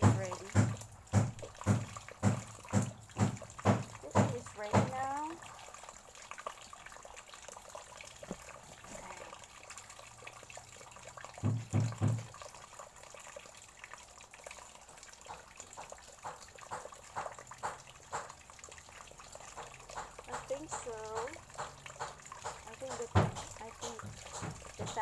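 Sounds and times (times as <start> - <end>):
small water splashes: 0.0 - 25.0
water trickling and dripping: 0.0 - 25.0.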